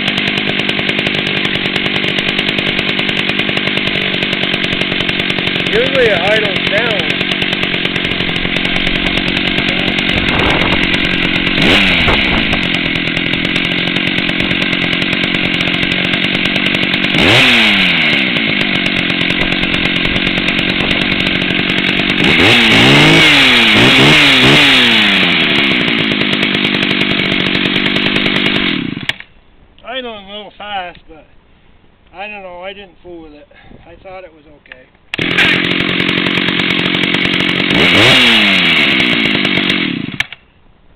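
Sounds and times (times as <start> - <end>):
chainsaw engine idling and revving: 0.0 - 29.3, 35.1 - 40.5.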